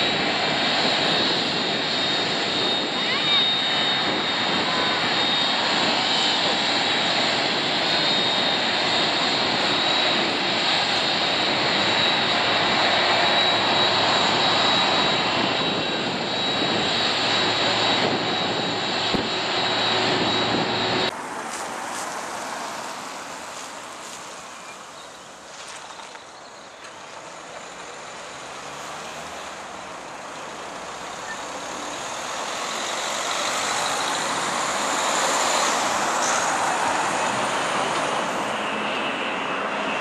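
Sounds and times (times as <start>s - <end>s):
distant aircraft rumble: 0.0s - 40.0s
jet engines running with high whine: 0.0s - 40.0s.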